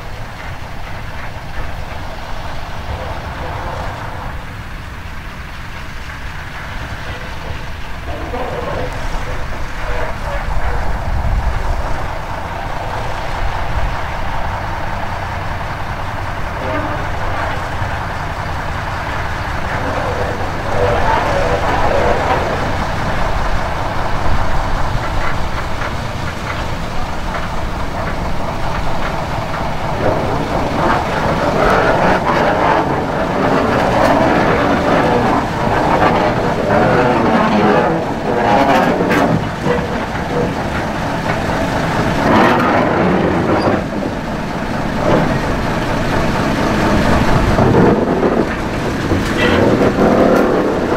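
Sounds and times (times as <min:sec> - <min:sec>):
diesel locomotive engine: 0:00.0 - 0:50.9
wheels rolling over rails: 0:00.0 - 0:50.9.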